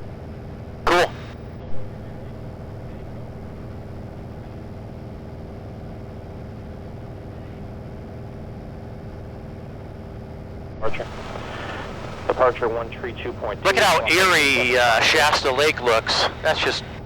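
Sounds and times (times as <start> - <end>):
airplane engine droning: 0.0 - 17.0.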